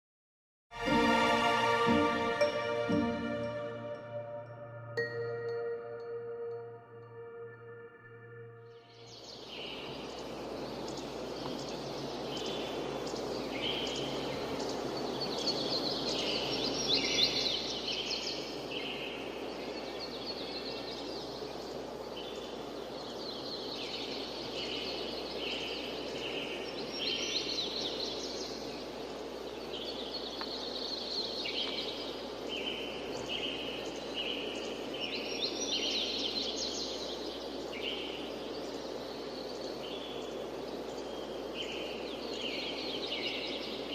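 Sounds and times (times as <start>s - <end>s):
songbirds chirping: 0.8s - 43.9s.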